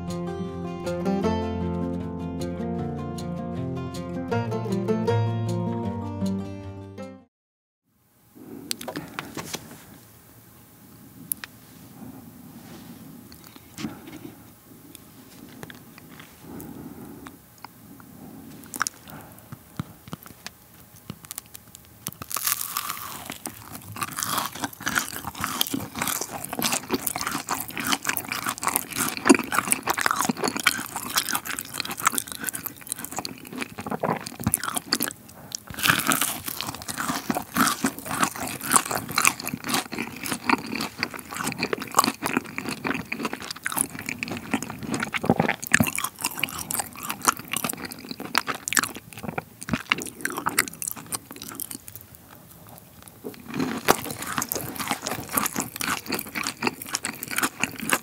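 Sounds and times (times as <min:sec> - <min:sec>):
crunchy biting and chewing: 0:08.5 - 0:09.9, 0:11.2 - 0:58.0.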